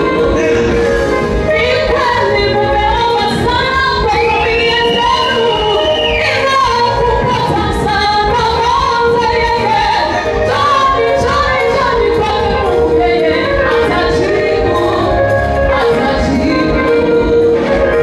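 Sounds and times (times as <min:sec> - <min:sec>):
gospel choir singing: 0:00.0 - 0:18.0
instrumental accompaniment with low beat: 0:00.0 - 0:18.0
woman singing lead: 0:00.0 - 0:18.0.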